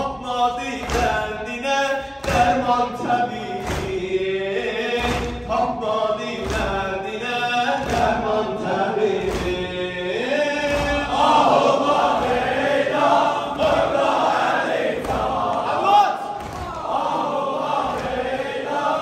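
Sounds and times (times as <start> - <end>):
low rhythmic thumps: 0.0 - 19.0
voices chanting together: 0.0 - 19.0.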